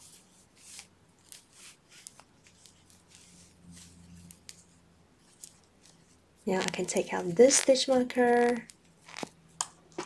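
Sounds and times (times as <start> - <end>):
yarn rustling through loops: 0.0 - 9.3
low steady hum: 0.0 - 10.0.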